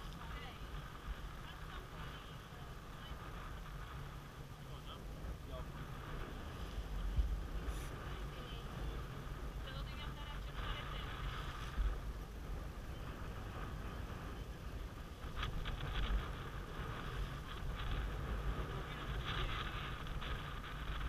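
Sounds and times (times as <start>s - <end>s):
water rushing along a hull: 0.0s - 21.0s
wind buffeting microphone: 0.0s - 21.0s.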